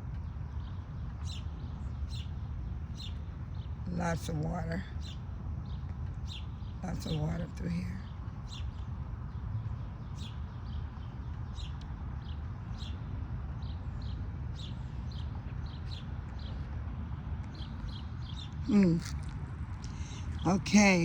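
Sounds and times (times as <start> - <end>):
low steady rumble: 0.0 - 21.0
small birds chirping: 0.0 - 21.0.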